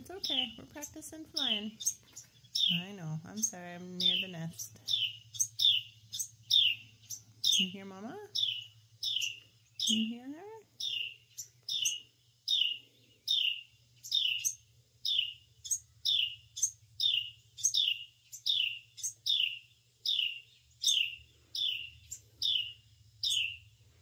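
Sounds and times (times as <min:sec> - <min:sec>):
wren alarm chirps: 0:00.0 - 0:23.7.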